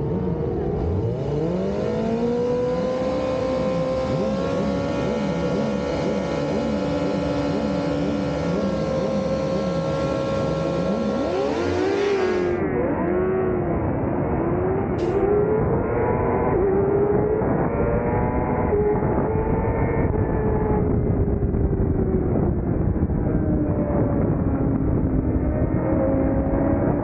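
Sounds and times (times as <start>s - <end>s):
motorcycle engine revving high: 0.0s - 27.0s.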